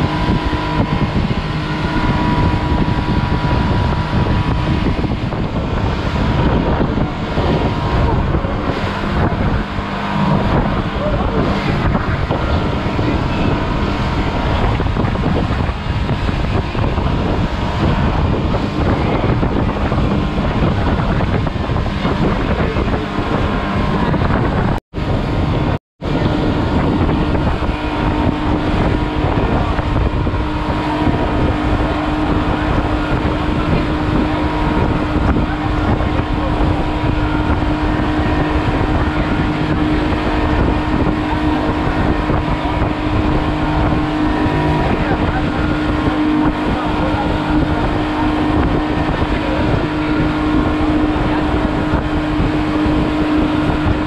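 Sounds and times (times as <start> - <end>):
boat motor droning: 0.0 - 54.0
spray rushing off hull: 0.0 - 54.0
wind on microphone: 0.0 - 54.0.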